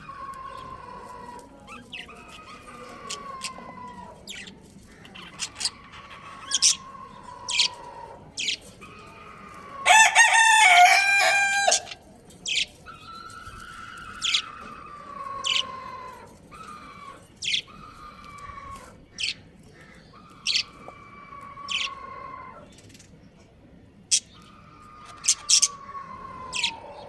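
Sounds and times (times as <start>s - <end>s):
budgies chirping: 0.0s - 23.2s, 24.1s - 27.0s.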